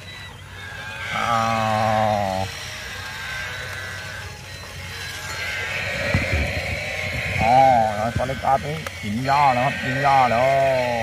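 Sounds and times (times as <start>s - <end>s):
toy animal wavering cry: 0.0s - 11.0s.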